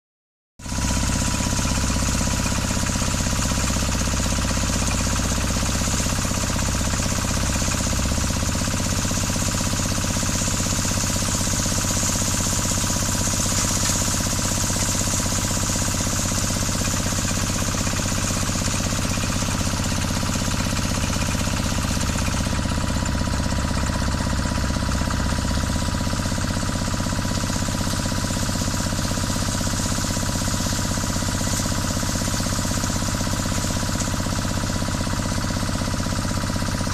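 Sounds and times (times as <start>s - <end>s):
drilling rig engine running: 0.6s - 36.9s.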